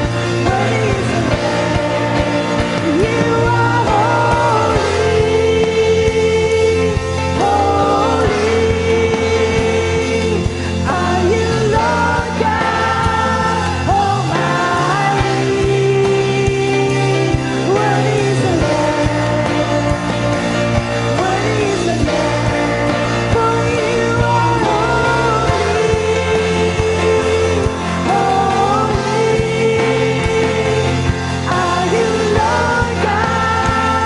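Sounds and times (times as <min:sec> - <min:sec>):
band playing worship music: 0:00.0 - 0:34.0
person singing: 0:00.0 - 0:34.0.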